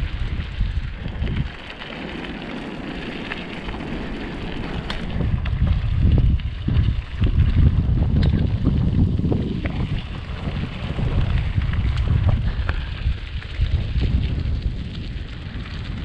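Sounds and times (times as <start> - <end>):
tyres rolling over forest path: 0.0 - 16.0
wind buffeting microphone: 0.0 - 16.0.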